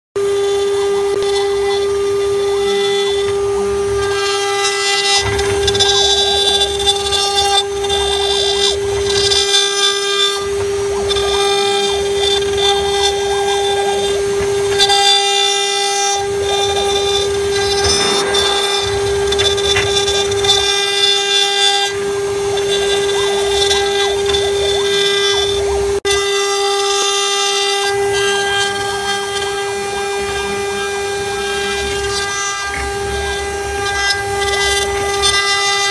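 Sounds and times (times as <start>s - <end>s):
bit cutting wood: 0.2s - 35.9s
cnc router spindle whining: 0.2s - 35.9s.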